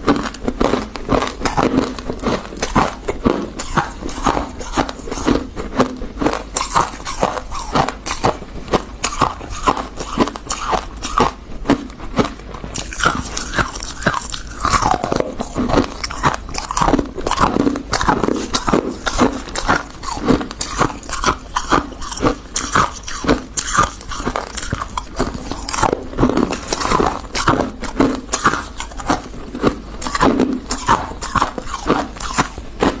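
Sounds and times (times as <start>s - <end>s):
frost being bitten and chewed: 0.0s - 33.0s.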